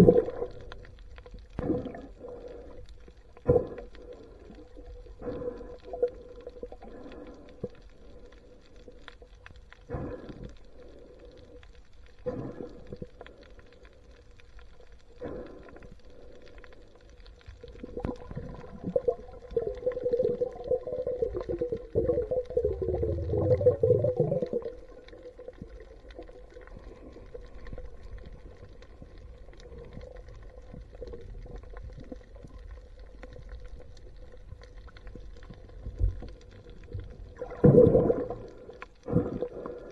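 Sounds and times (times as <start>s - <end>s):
underwater gurgling: 0.0s - 39.9s
underwater hum: 0.0s - 39.9s.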